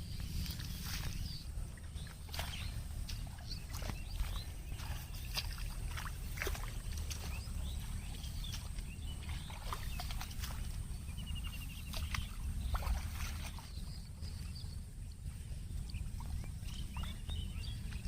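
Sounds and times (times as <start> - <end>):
low rumble: 0.0 - 18.0
faint chirps and clicks: 0.2 - 18.0.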